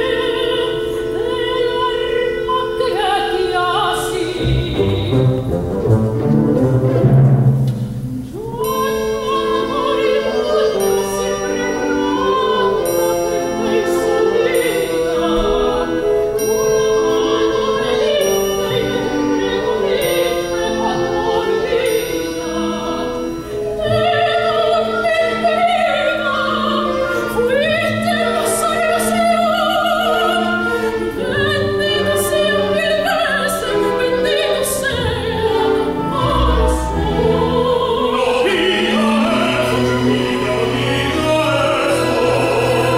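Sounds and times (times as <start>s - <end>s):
operatic duet singing: 0.0s - 7.0s, 8.3s - 42.9s
symphony orchestra: 0.0s - 42.9s.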